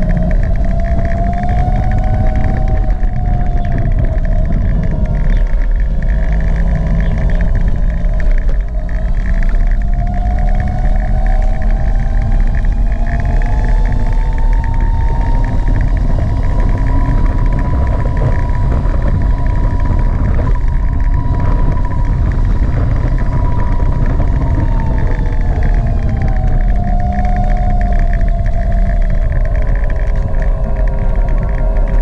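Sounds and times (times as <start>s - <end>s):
electric scooter motor whining: 0.0s - 32.0s
wind rumbling on microphone: 0.0s - 32.0s.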